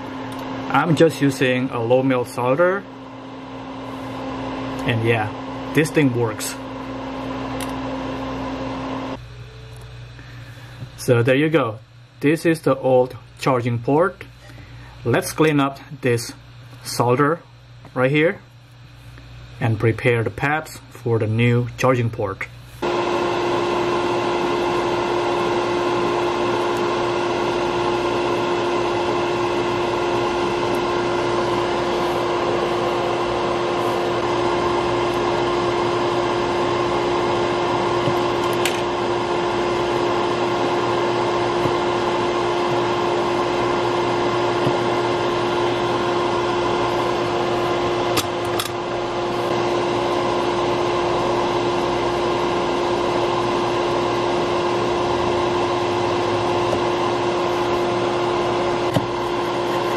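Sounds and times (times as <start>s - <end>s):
electric fan humming: 0.0s - 59.9s.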